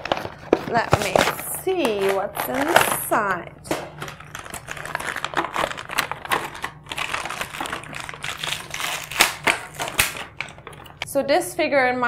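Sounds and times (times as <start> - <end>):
packaging crackling: 0.0 - 11.1.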